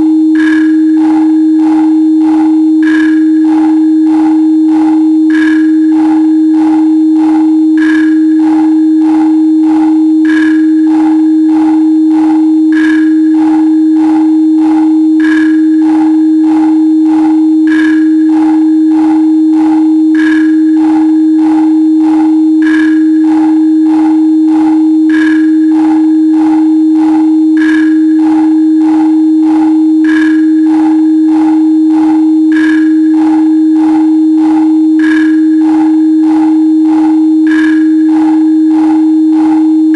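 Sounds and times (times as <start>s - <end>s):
pure sine tone: 0.0s - 39.9s
soft pulsing beat: 0.0s - 39.9s.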